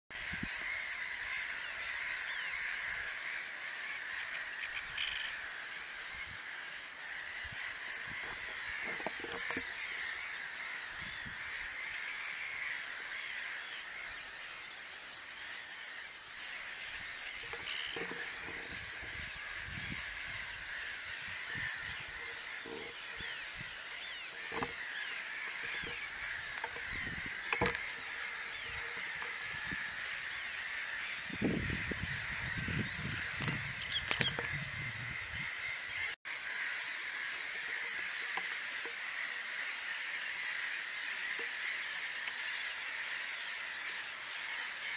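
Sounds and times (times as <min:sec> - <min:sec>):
wildlife chorus with chirps: 0:00.1 - 0:44.9.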